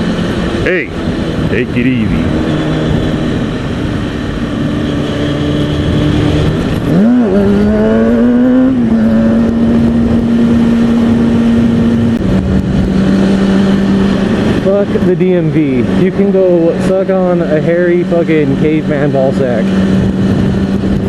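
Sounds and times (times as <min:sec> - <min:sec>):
motorcycle engine running: 0:00.0 - 0:21.0
wind rush: 0:00.0 - 0:21.0.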